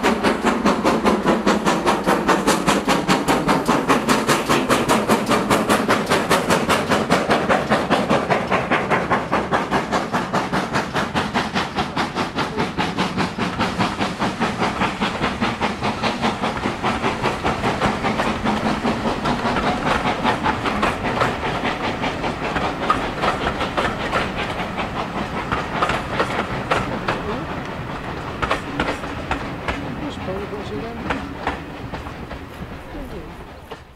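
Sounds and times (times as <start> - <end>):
steam locomotive exhaust beats: 0.0 - 33.9
train coaches rolling on rails: 0.0 - 33.9.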